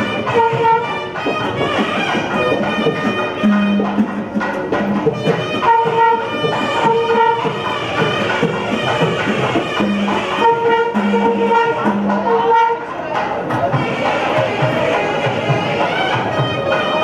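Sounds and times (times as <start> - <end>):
double-reed pipe melody: 0.0 - 13.1, 13.8 - 17.0.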